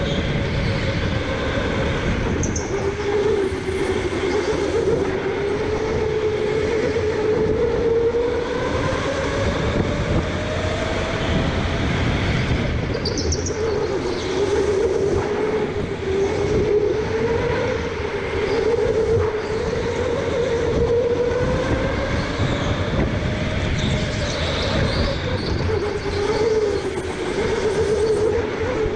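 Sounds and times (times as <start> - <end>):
electric motor whining: 0.0 - 28.9.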